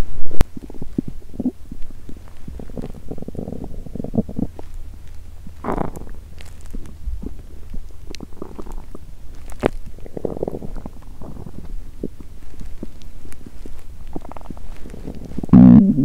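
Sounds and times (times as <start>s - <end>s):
low steady hum: 0.0s - 16.0s
stomach gurgling and rumbling: 0.0s - 16.0s.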